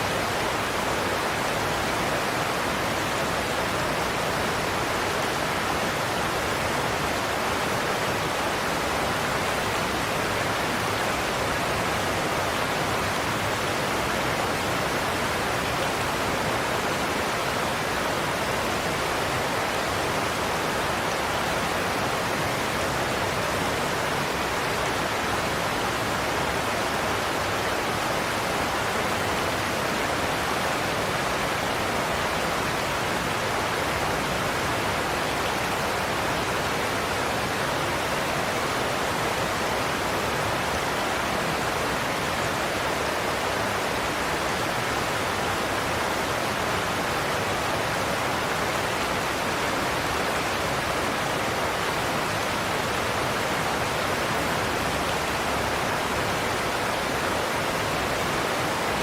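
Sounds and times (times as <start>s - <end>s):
waterfall roar: 0.0s - 59.0s.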